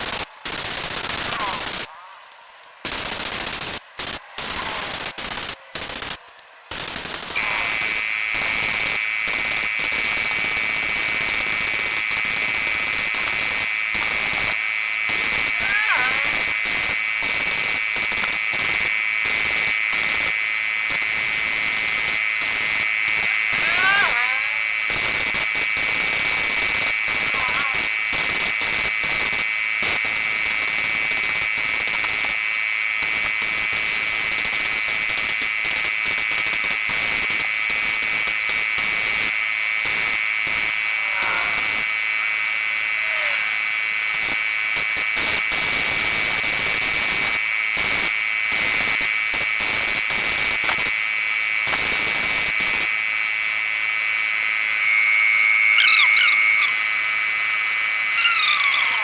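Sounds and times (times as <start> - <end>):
paint sprayer whine and hiss: 2.9 - 59.0.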